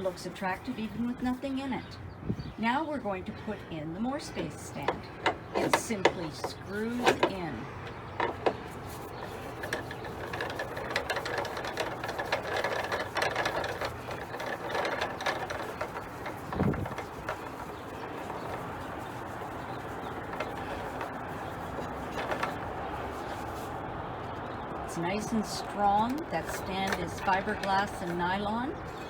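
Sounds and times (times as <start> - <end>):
threads clicking and scraping: 0.0 - 1.8, 3.2 - 29.0.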